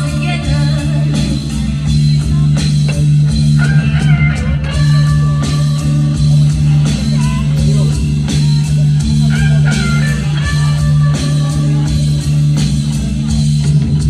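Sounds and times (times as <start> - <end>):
drum kit: 0.0 - 14.0
guitar with bent notes: 0.0 - 14.0
steady bass note: 0.0 - 14.0.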